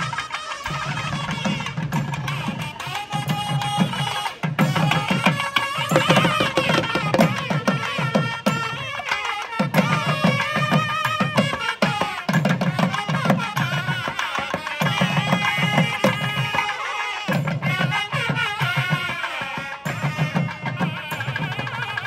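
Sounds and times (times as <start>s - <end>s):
nadaswaram ensemble melody: 0.0s - 22.0s
thavil drums beating: 0.0s - 22.0s.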